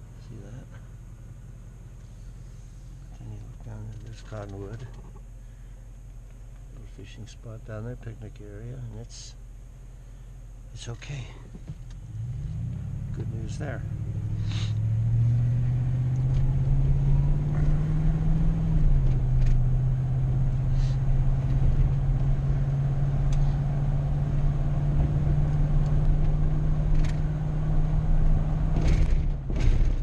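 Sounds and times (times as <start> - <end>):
car engine: 0.0 - 30.0
road noise: 0.0 - 30.0.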